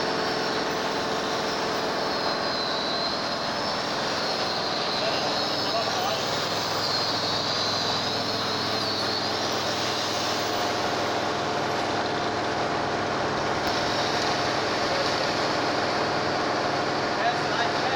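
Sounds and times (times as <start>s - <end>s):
faint wavering high whine: 0.0s - 16.1s.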